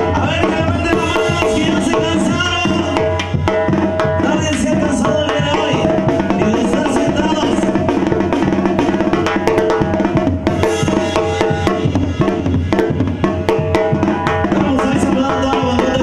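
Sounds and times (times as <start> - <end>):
snare and bass drum beat: 0.0 - 16.0.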